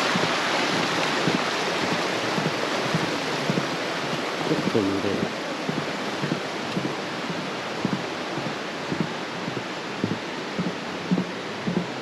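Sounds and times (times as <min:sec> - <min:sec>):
river rushing: 0:00.0 - 0:12.0
soft low knocks: 0:00.0 - 0:12.0.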